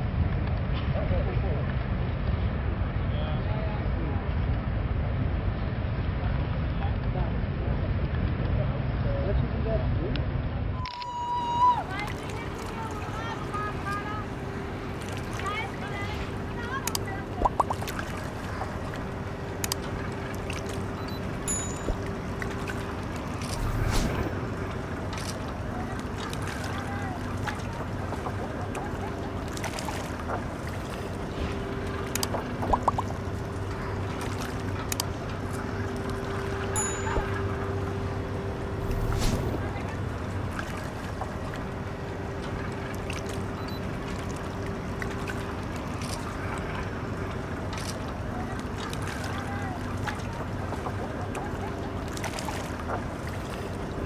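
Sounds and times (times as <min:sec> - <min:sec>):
faint steady hum: 0:00.0 - 0:54.0
boat engine drone: 0:10.4 - 0:54.0
water noise: 0:10.8 - 0:54.0.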